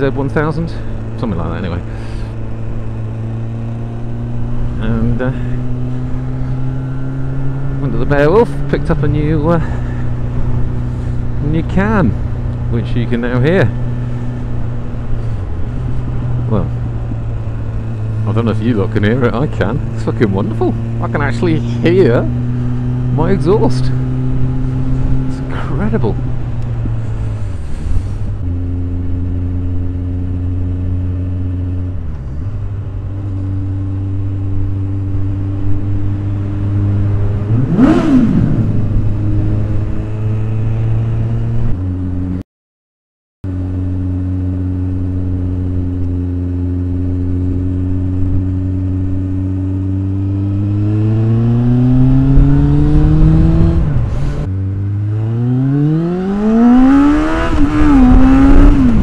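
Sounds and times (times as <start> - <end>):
motorcycle engine revving: 0.0 - 42.4, 43.5 - 59.0.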